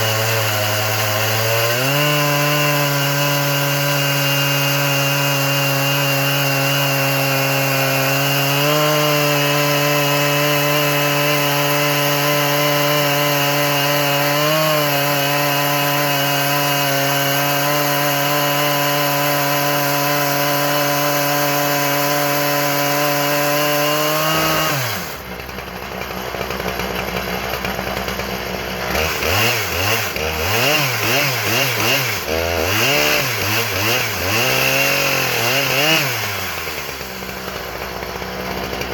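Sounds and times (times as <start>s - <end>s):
chainsaw cutting log: 0.0s - 38.9s
chainsaw idling and revving: 0.0s - 38.9s.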